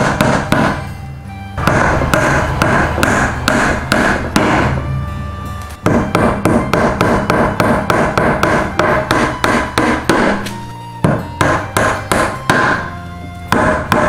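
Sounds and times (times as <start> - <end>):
hammer driving nails into wood: 0.0 - 0.8, 1.6 - 4.8, 5.8 - 12.9, 13.5 - 14.0.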